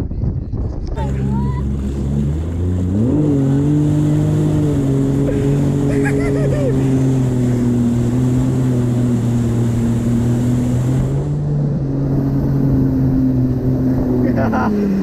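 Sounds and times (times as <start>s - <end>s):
jet ski engine running: 0.1s - 15.0s
water rushing and spray: 1.0s - 15.0s.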